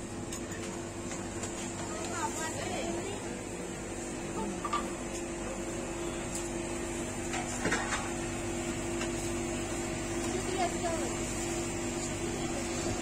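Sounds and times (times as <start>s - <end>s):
freezer humming: 0.0s - 13.0s.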